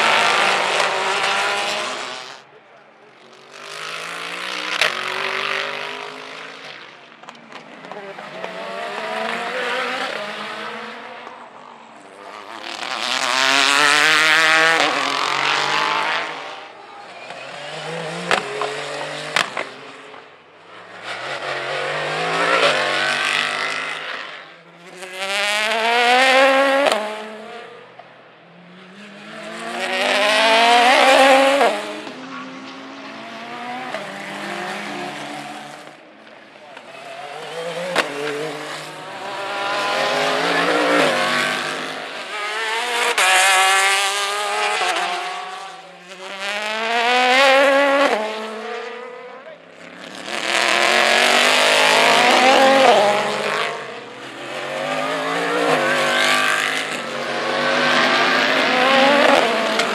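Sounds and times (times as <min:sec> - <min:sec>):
race cars passing: 0:00.0 - 0:59.9.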